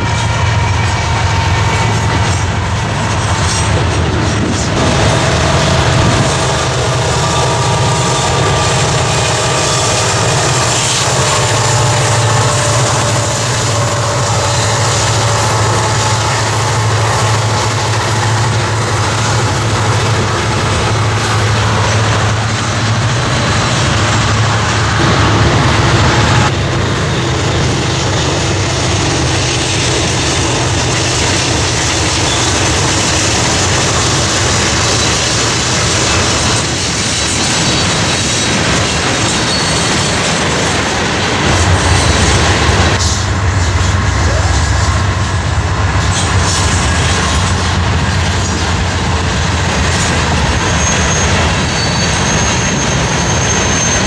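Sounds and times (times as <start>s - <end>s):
low diesel drone: 0.0s - 36.8s, 41.4s - 51.6s
train wheels clattering on rails: 0.0s - 54.0s.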